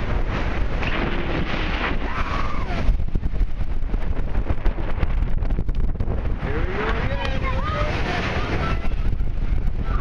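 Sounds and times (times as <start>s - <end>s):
surf churning against pier: 0.0s - 10.0s
wind buffeting microphone: 0.0s - 10.0s.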